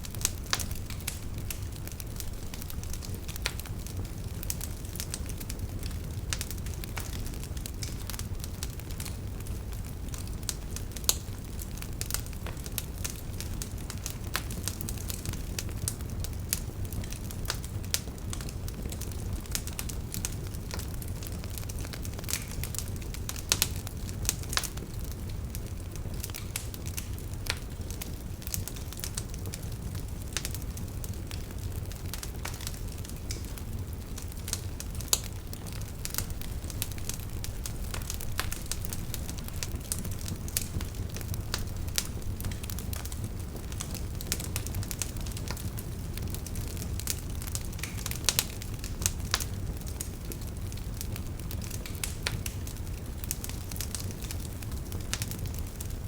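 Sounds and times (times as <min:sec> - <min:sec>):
fire crackling in fireplace: 0:00.0 - 0:56.0.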